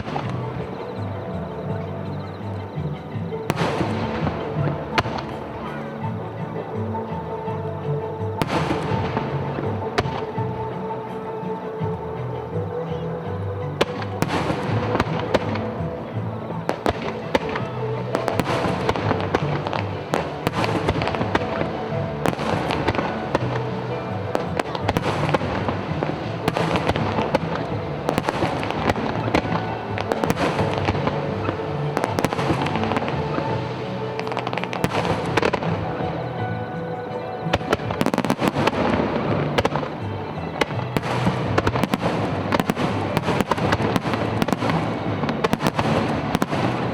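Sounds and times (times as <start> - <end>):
fireworks bursting and crackling: 0.0 - 11.7, 13.8 - 46.9
music: 0.0 - 46.9.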